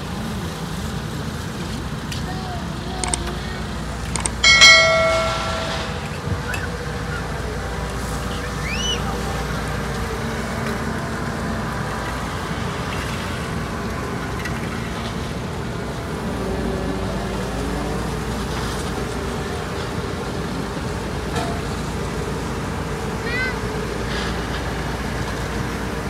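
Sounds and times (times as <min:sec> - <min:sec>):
road roller diesel engine running: 0:00.0 - 0:26.0.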